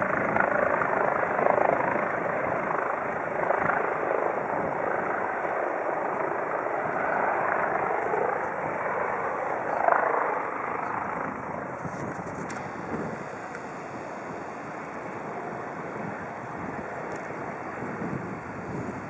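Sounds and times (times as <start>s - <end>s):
distant helicopter running: 0.0s - 19.0s.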